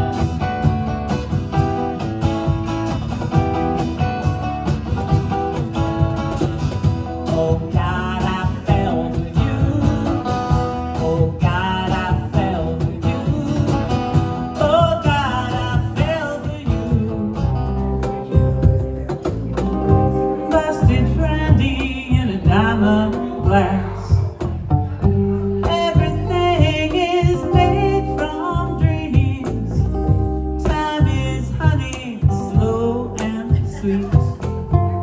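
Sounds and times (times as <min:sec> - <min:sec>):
acoustic band playing: 0:00.0 - 0:35.0.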